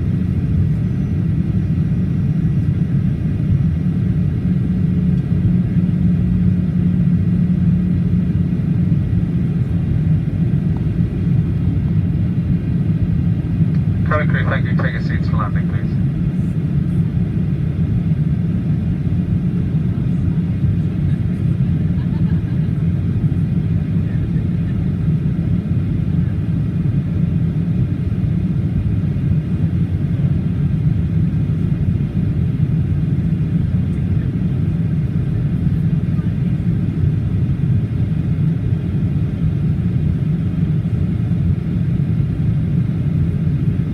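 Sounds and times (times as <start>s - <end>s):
airliner cabin jet engine rumble: 0.0s - 43.9s.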